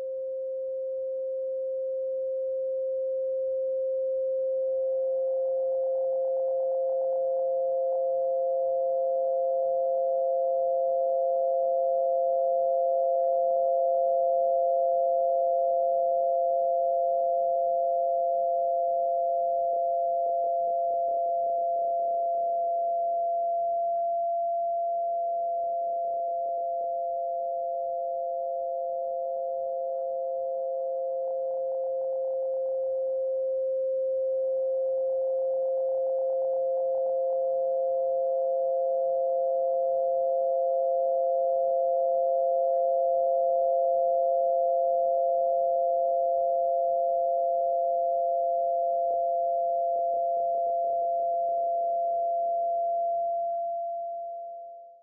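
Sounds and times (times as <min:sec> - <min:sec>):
higher steady sine tone: 0:00.0 - 0:55.0
steady mid-pitched sine tone: 0:00.0 - 0:55.0.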